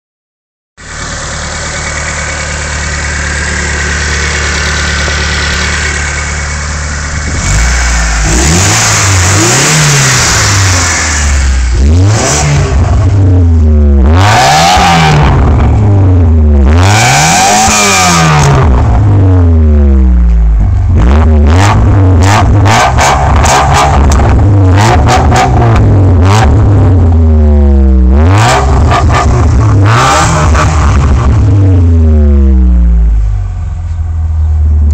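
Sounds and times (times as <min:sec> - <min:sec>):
car engine idling: 0:00.8 - 0:16.8, 0:17.6 - 0:34.9
car engine revving: 0:00.8 - 0:34.9.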